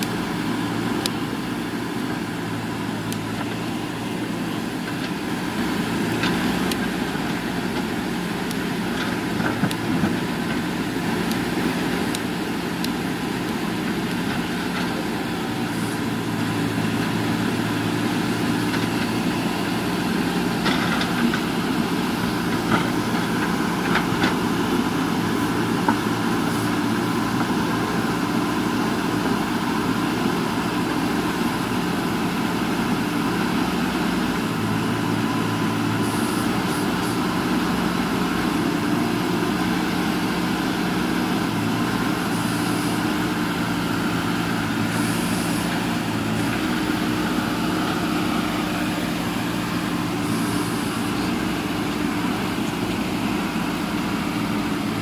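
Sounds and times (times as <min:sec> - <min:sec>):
backhoe diesel engine under load: 0:00.0 - 0:55.0.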